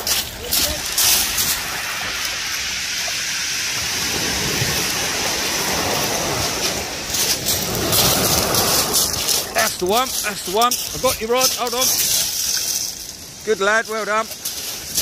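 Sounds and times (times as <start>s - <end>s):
waves washing over shingle: 0.0s - 15.0s.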